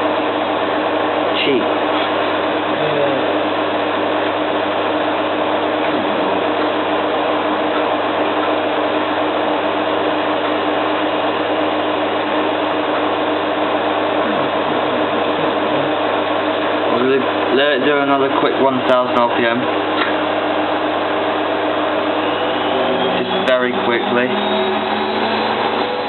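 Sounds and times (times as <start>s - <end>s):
washing machine spinning: 0.0s - 26.0s.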